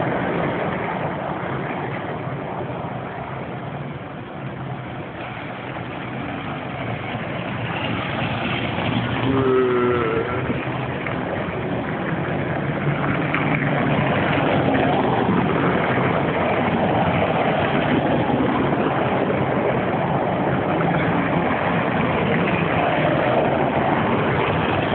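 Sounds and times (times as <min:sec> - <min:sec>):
vehicle engine rumble: 0:00.0 - 0:24.9.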